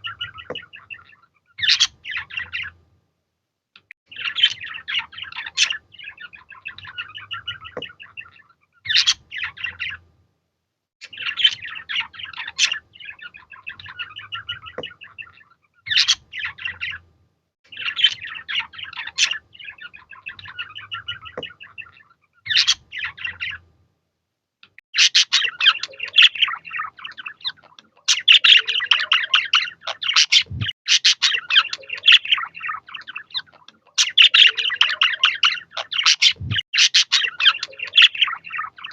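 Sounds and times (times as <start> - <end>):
budgerigars chattering: 0.0 - 2.8, 4.1 - 10.0, 11.0 - 17.0, 17.7 - 23.6, 25.0 - 38.9.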